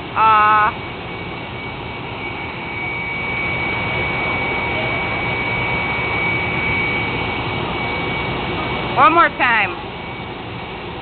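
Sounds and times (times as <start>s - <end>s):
air blower running with high whine: 0.0s - 11.0s.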